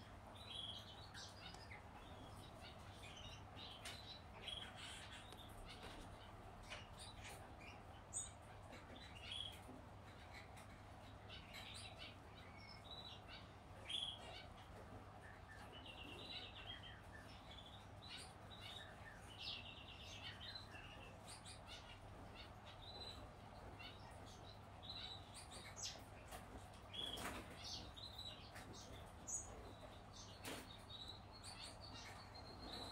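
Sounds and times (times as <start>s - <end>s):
chicks begging chirps: 0.0s - 32.9s.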